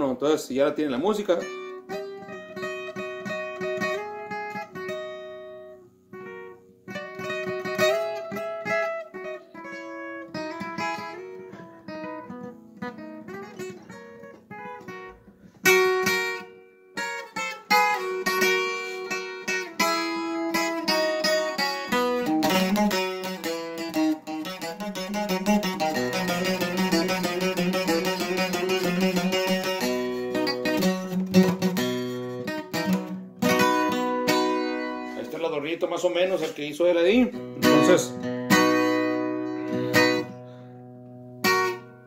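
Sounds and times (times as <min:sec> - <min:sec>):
acoustic guitar picked notes: 0:00.0 - 0:42.0
guitar strummed chords: 0:00.0 - 0:42.0.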